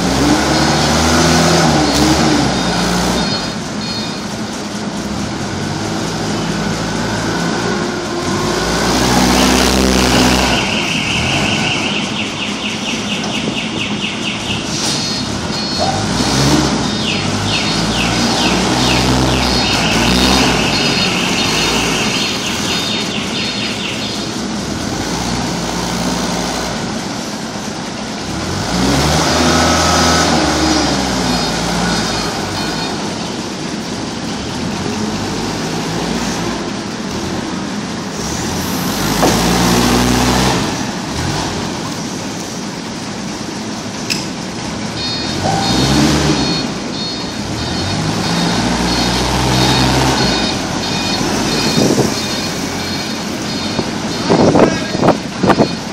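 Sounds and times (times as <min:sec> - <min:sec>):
forklift engine revving: 0:00.0 - 0:55.9.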